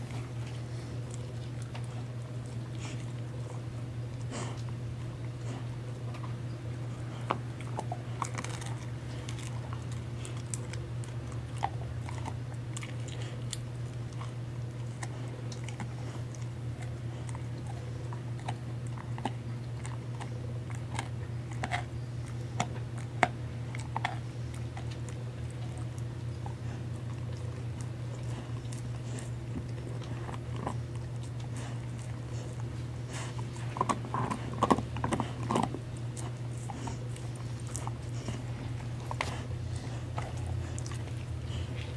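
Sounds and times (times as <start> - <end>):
dog crunching chew treat: 0.0 - 41.9
steady low hum: 0.0 - 41.9.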